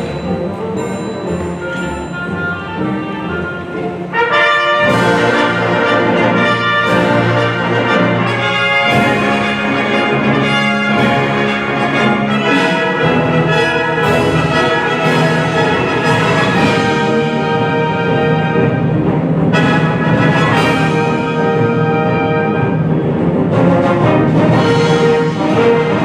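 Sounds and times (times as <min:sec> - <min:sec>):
brass section: 0:00.0 - 0:26.0
symphony orchestra playing: 0:00.0 - 0:26.0.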